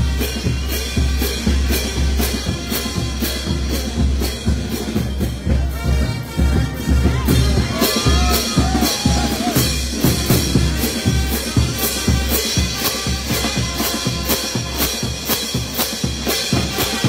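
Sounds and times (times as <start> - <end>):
snare drum and cymbal hits: 0.0 - 17.0
street brass band playing: 0.0 - 17.0.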